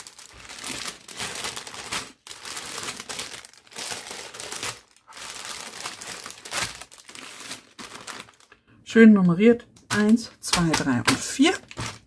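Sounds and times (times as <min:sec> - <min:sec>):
plastic bags crinkling: 0:00.0 - 0:08.6, 0:09.8 - 0:12.0.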